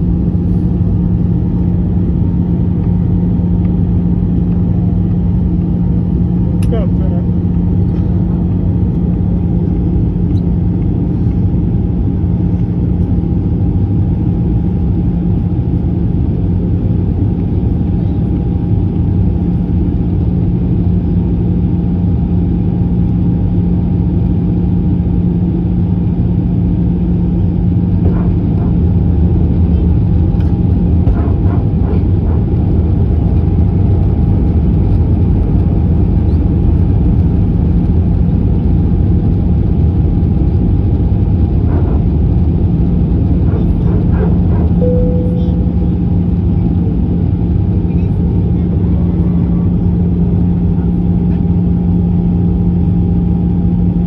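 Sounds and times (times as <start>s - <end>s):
jet engines rumbling: 0.0s - 54.0s
steady low hum: 0.0s - 54.0s.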